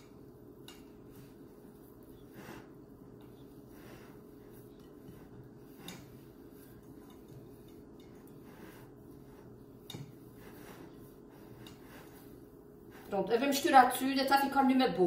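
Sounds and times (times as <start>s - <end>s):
hands rubbing pastry dough: 0.0s - 14.8s
steady low hum: 0.0s - 15.0s.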